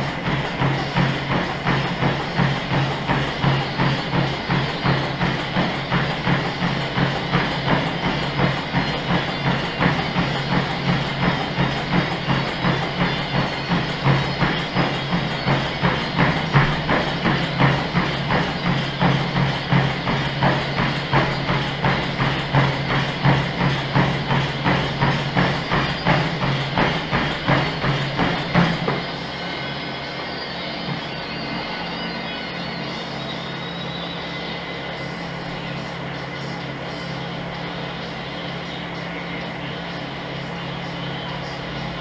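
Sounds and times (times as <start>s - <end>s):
footsteps on treadmill belt: 0.0s - 42.0s
treadmill motor hum: 0.0s - 42.0s.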